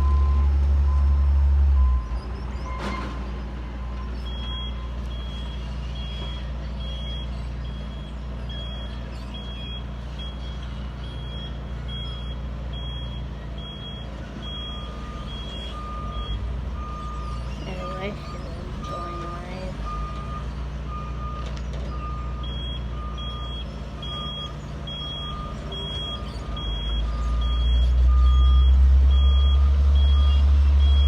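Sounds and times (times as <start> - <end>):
heavy construction vehicles running: 0.0 - 31.0
low-pitched back-up alarm beeping: 3.8 - 31.0.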